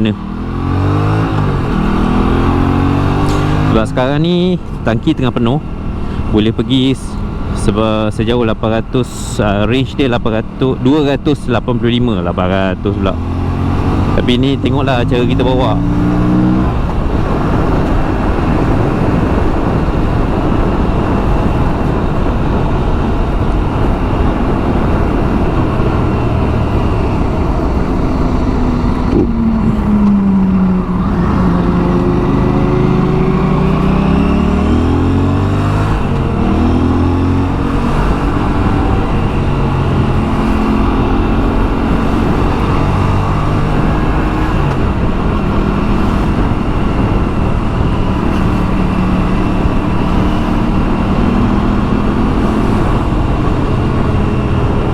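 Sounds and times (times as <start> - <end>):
motorcycle engine running: 0.0 - 54.9
steady rushing noise: 0.0 - 54.9.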